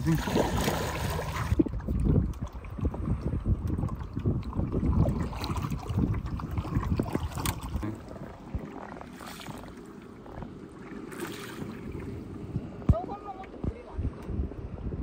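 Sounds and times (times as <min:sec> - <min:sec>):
paddles swishing through water: 0:00.0 - 0:13.8
wind rumble on microphone: 0:00.0 - 0:15.0.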